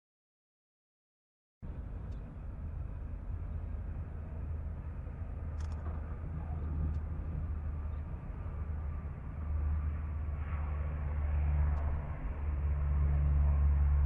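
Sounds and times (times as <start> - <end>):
turboprop engines rumbling: 1.6 - 14.0.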